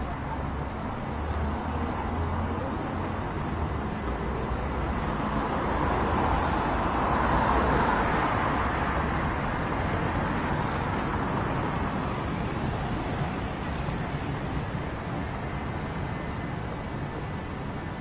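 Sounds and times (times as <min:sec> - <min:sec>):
city traffic: 0:00.0 - 0:18.0.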